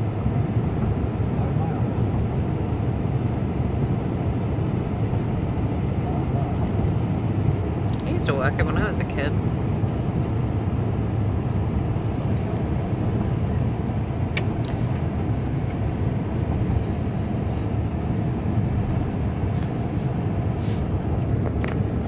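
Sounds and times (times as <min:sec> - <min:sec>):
car rumble on snowy road: 0:00.0 - 0:22.0.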